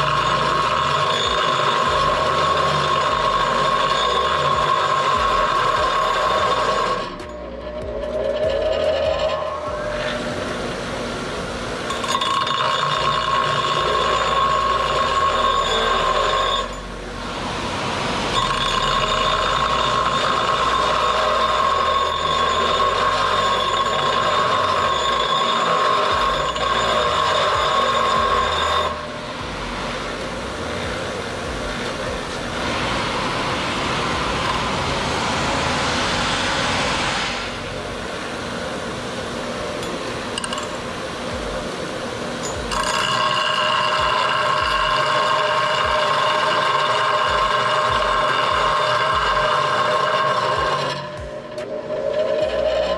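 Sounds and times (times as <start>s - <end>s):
bench grinder grinding metal: 0.0s - 52.9s.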